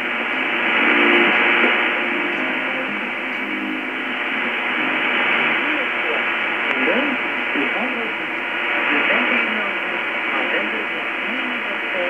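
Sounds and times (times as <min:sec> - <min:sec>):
faint radio tones: 0:00.0 - 0:12.0
shortwave radio band hiss: 0:00.0 - 0:12.0.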